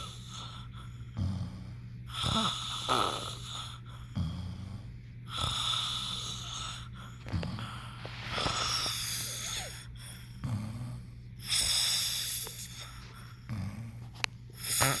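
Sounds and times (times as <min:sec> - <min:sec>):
person snoring: 0:00.0 - 0:15.0.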